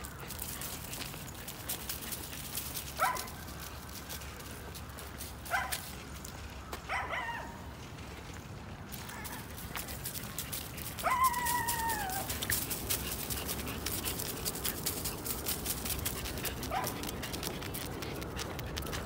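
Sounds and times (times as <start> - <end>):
dry leaves crunching underfoot: 0.0 - 18.2.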